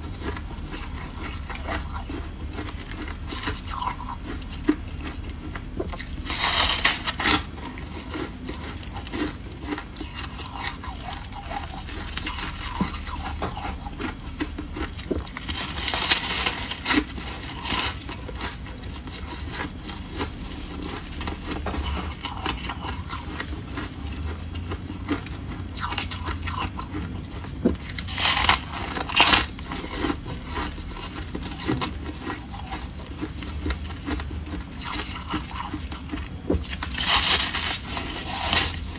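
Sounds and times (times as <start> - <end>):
frost being chewed: 0.0 - 38.9.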